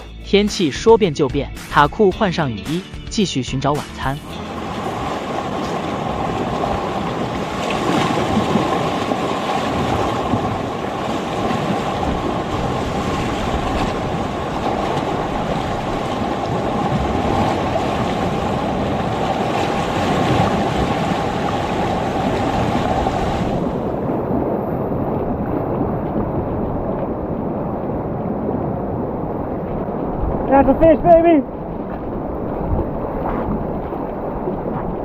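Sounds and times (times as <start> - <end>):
ocean surf: 1.6 - 35.0
wind: 1.7 - 35.0
wind buffeting microphone: 4.3 - 35.0.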